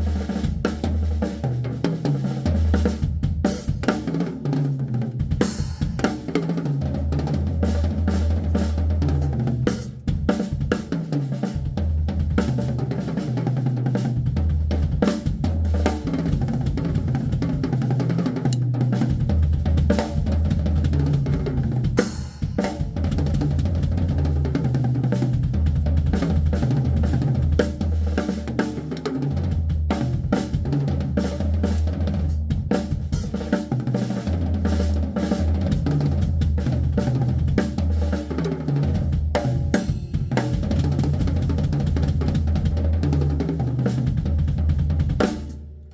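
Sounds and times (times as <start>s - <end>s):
rapid bass drum and snare: 0.0s - 45.9s.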